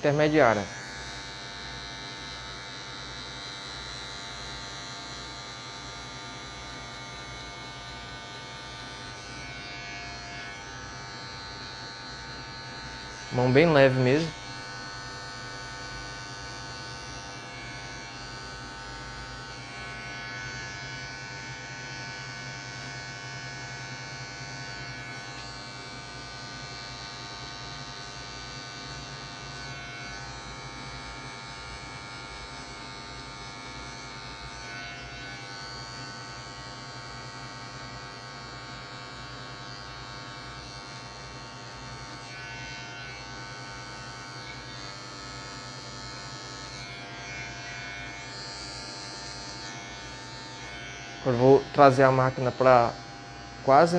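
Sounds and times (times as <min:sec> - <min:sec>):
electric hair clipper buzzing: 0:00.0 - 0:53.9.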